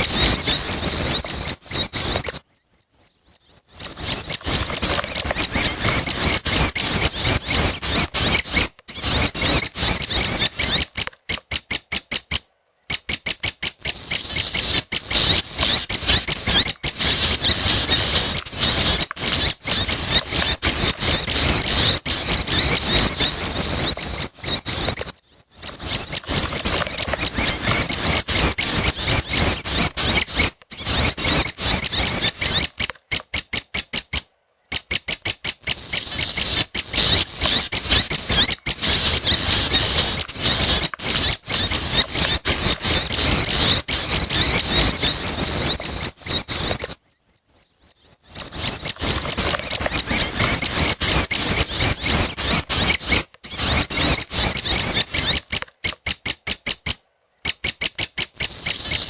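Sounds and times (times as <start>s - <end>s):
birds chattering and ticking: 0.0s - 59.0s.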